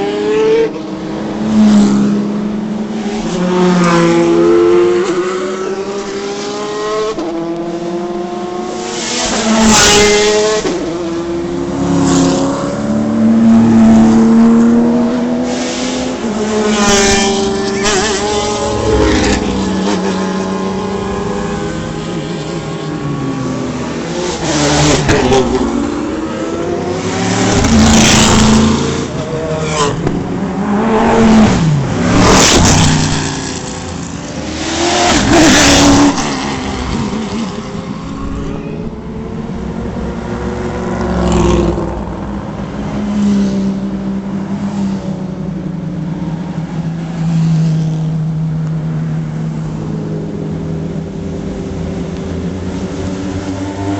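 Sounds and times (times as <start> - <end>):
race cars passing by: 0.0 - 53.9
race cars revving engines: 0.0 - 53.9.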